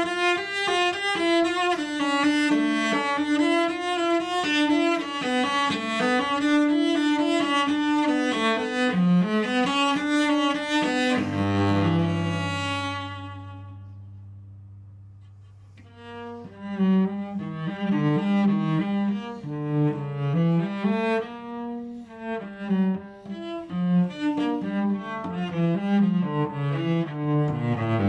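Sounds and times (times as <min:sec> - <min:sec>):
bowed cello: 0:00.0 - 0:28.0.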